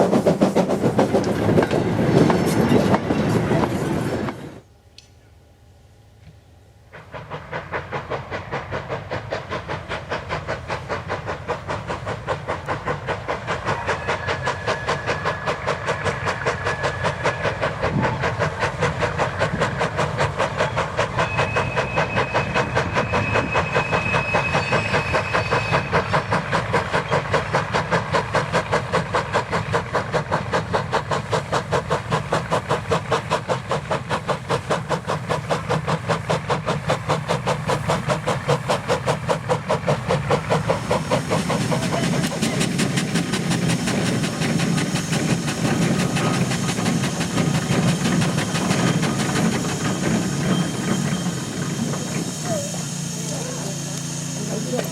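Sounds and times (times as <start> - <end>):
steam locomotive exhaust beating: 0.0 - 5.1, 6.2 - 54.9.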